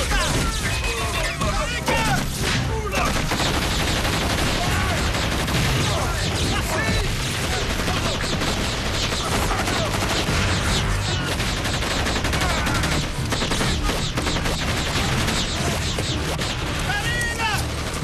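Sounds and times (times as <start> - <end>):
rapid rifle fire: 2.2 - 18.0.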